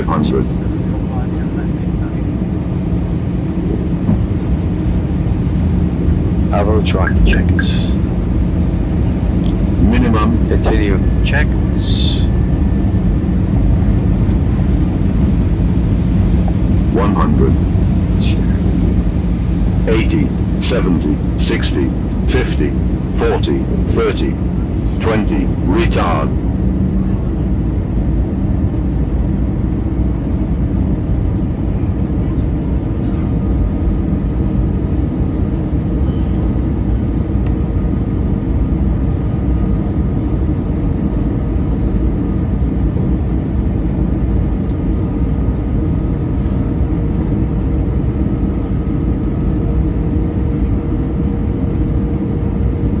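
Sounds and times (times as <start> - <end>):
airplane engine and wheel rumble: 0.0 - 53.0
faint steady hum: 0.0 - 53.0.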